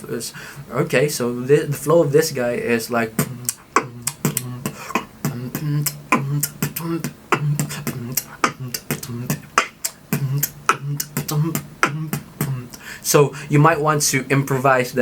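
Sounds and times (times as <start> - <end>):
beatboxing: 1.6 - 15.0.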